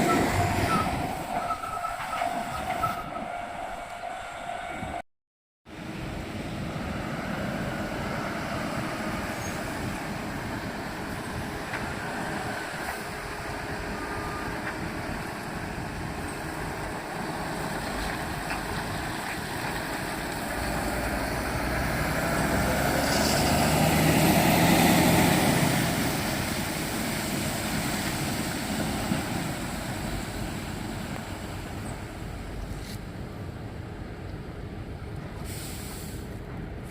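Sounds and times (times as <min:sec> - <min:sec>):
heavy truck passing: 0:00.0 - 0:05.0, 0:05.7 - 0:36.9.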